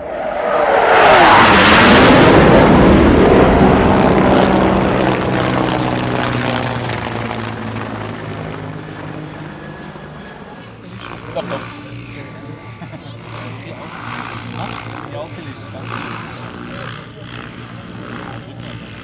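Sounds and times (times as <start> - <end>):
aircraft flyby roar: 0.0 - 19.0
low engine hum: 0.0 - 19.0.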